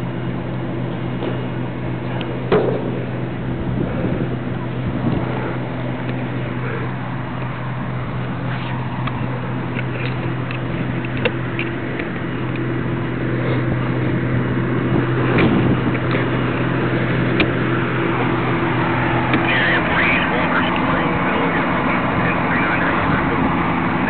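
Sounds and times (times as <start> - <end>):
fire engine running: 0.0 - 24.0.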